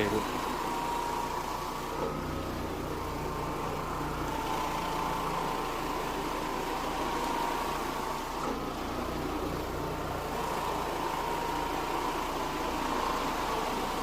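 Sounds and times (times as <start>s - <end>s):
floor machine motor hum and whine: 0.0s - 14.0s.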